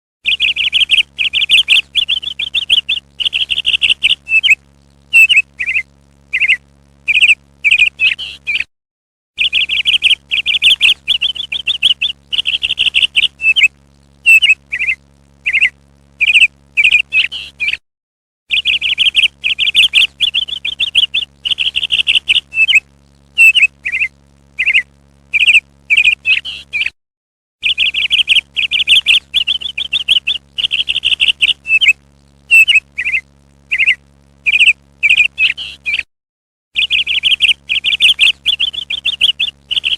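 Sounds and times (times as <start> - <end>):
faint steady hum: 0.3 - 8.7, 9.4 - 17.8, 18.5 - 26.9, 27.6 - 36.1, 36.8 - 39.9
parrot chirping: 0.3 - 8.7, 9.4 - 13.7, 14.3 - 17.8, 18.5 - 22.8, 23.4 - 26.9, 27.6 - 36.0, 36.8 - 39.9.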